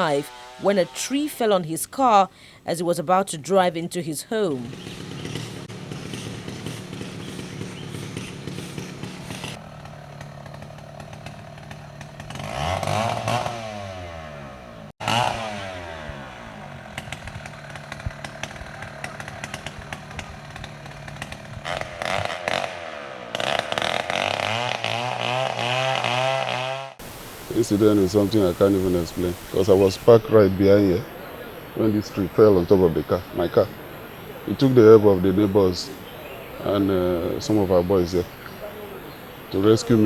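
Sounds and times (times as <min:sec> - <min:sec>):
chainsaw idling and revving: 0:00.0 - 0:01.2, 0:04.6 - 0:40.0.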